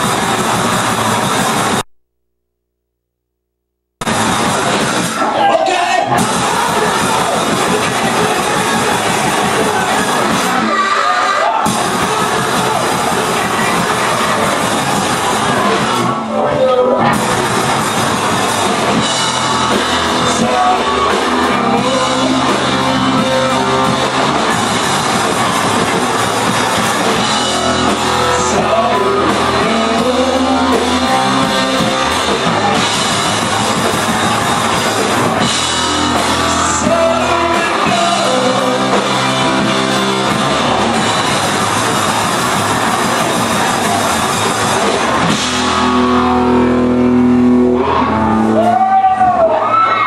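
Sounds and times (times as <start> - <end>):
loud rock music: 0.0 - 1.9, 4.0 - 50.0.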